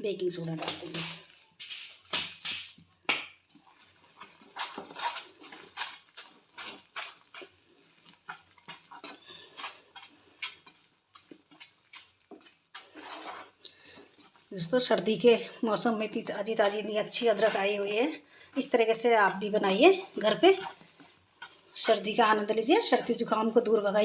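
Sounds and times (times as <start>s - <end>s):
spoon stirring and scraping pan: 0.4s - 23.8s.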